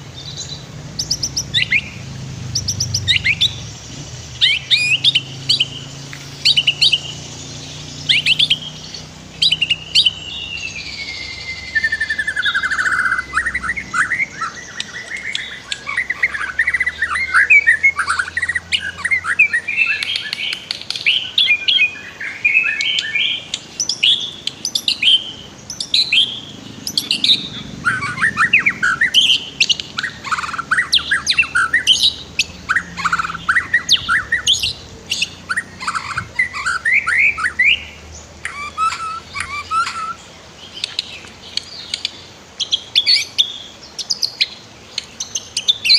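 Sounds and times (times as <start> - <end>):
stream rushing: 0.0 - 45.9
songbird whistling and trilling: 0.2 - 45.9.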